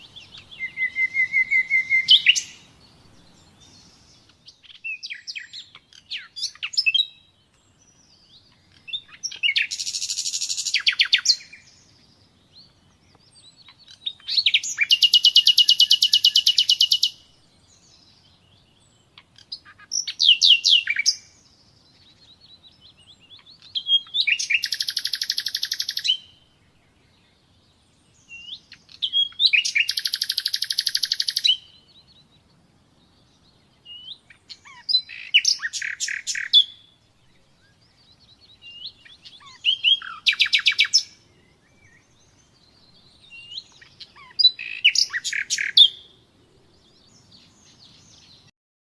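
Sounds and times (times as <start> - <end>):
nightingale singing: 0.0 - 48.5.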